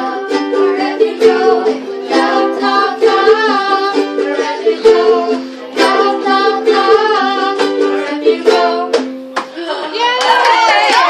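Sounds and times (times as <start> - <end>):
ukuleles strummed: 0.0 - 9.8
women and girl singing: 0.0 - 10.2.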